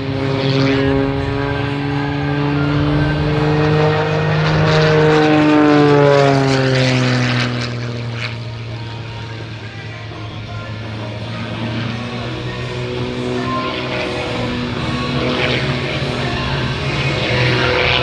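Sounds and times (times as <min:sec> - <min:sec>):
plane engine and propeller droning: 0:00.0 - 0:18.0.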